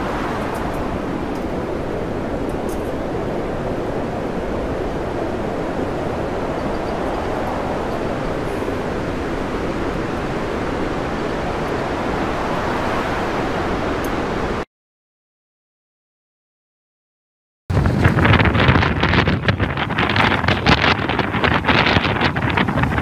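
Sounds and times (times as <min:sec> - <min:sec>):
storm wind and heavy sea: 0:00.0 - 0:14.7, 0:17.7 - 0:23.0.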